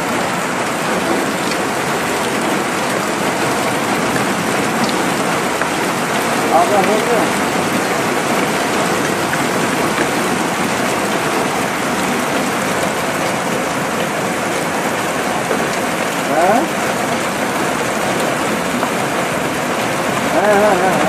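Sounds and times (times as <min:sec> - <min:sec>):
hail pelting the ground: 0:00.0 - 0:21.0.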